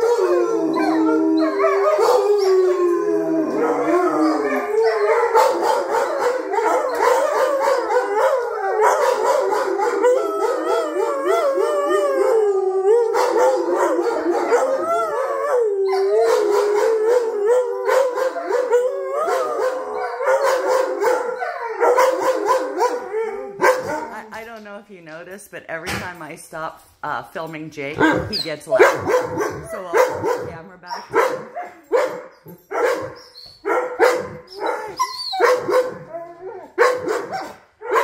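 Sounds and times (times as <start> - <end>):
dogs howling in chorus: 0.0 - 24.1, 31.1 - 38.0.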